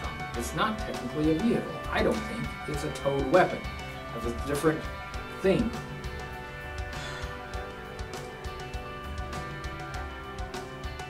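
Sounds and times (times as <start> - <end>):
background music with light beat: 0.0 - 11.0.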